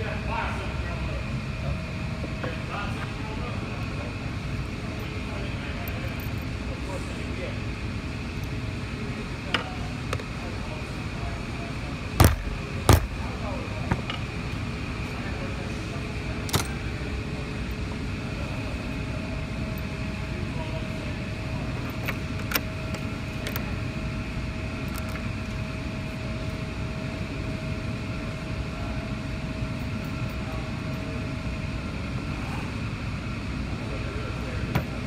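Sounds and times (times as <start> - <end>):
low workshop hum: 0.0 - 35.0.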